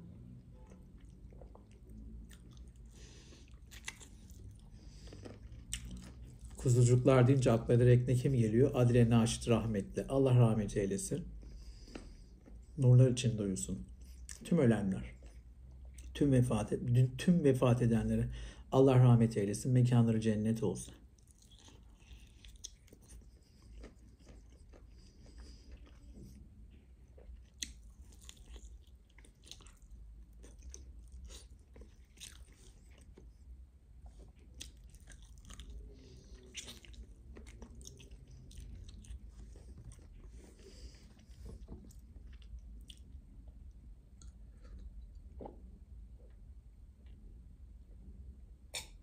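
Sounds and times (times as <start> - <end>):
chewing with light crunches: 0.0 - 17.0, 20.5 - 47.3.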